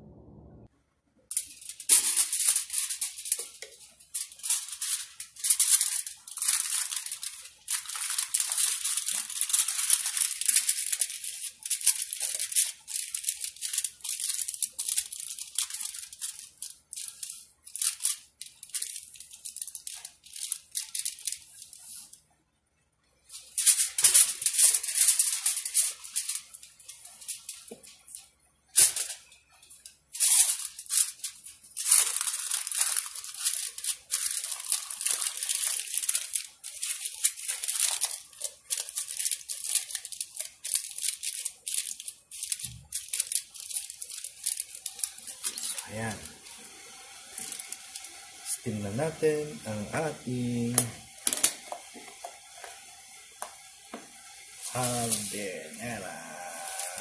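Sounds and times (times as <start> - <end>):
aluminium foil crinkling: 1.3 - 22.3, 23.2 - 57.0.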